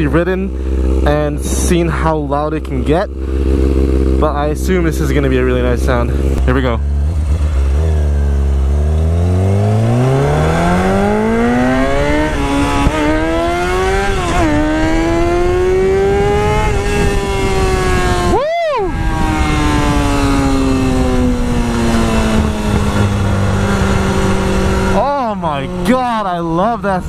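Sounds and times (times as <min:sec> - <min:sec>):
motorcycle accelerating through gears: 0:00.0 - 0:27.0.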